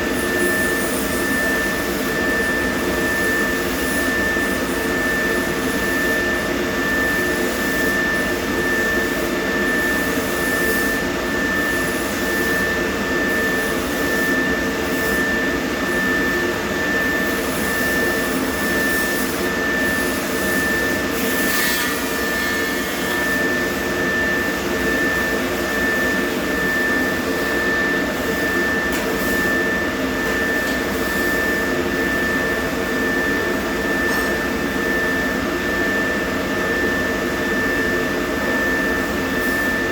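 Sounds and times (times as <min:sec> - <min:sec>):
machine running with high whine: 0:00.0 - 0:39.9.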